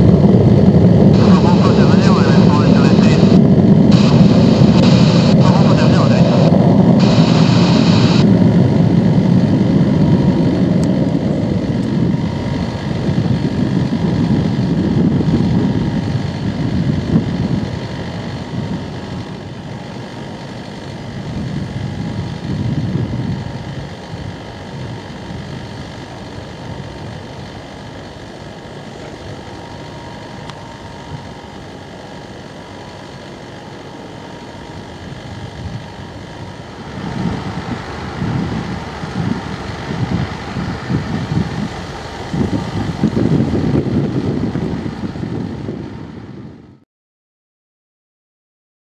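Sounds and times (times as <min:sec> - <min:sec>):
jet engines rumbling: 0:00.0 - 0:46.8.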